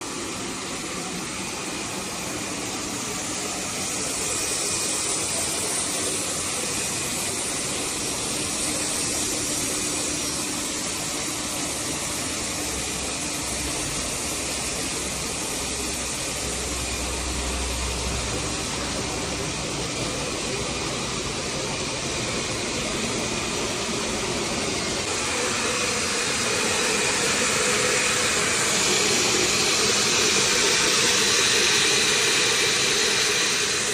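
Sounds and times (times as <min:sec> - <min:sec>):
welding machine hissing: 0:00.0 - 0:33.9.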